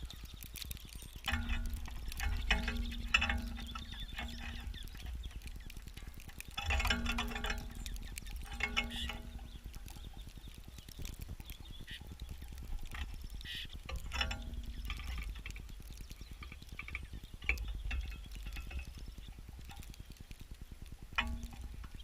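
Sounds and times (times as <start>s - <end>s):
birds tapping and scuffling on feeder: 0.0s - 22.0s
low wind rumble: 0.0s - 22.0s.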